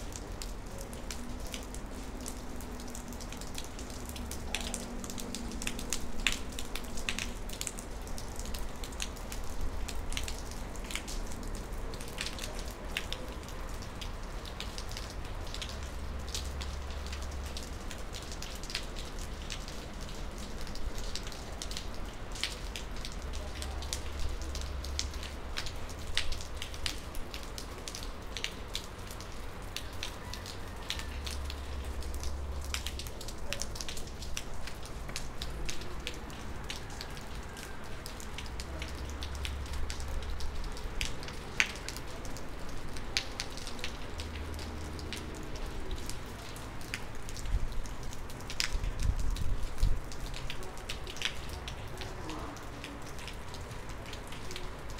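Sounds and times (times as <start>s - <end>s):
rain falling: 0.0s - 54.9s
raindrops tapping: 0.0s - 54.9s.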